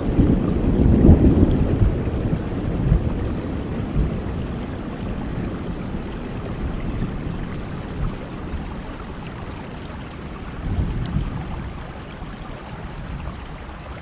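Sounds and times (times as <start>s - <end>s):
thunder rumbling: 0.0s - 13.6s
steady rain: 0.0s - 14.0s.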